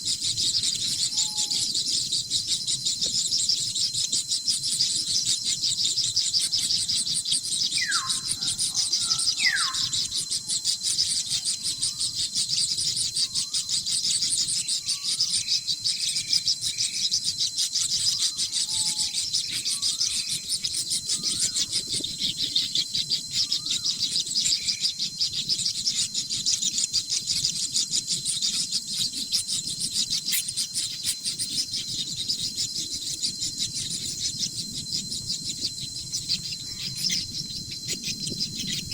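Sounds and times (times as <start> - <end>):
bird whistles and chirps: 0.0 - 38.9
crickets chirping: 0.0 - 38.9.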